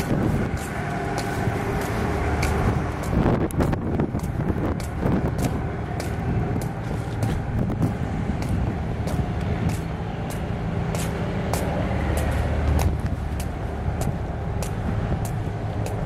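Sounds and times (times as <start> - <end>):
low engine-like hum: 0.0 - 16.0
wind buffeting microphone: 0.0 - 16.0.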